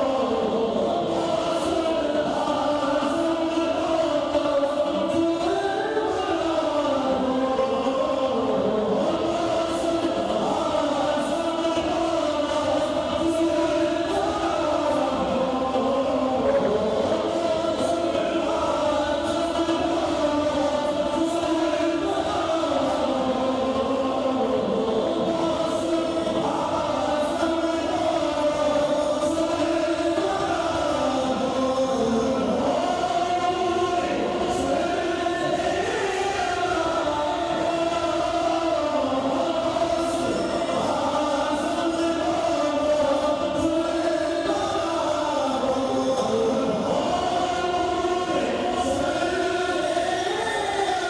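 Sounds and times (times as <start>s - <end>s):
men singing devotional song: 0.0s - 51.0s.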